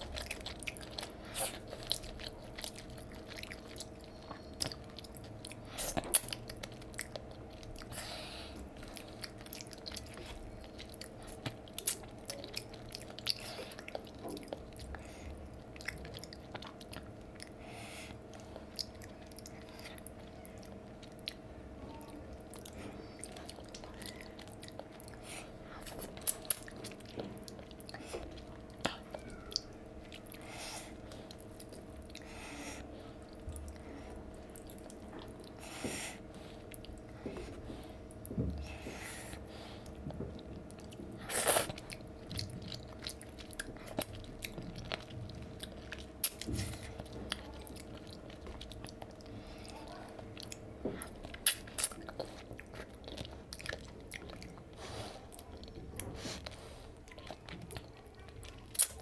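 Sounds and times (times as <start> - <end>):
chewing and mouth sounds: 0.0 - 59.0.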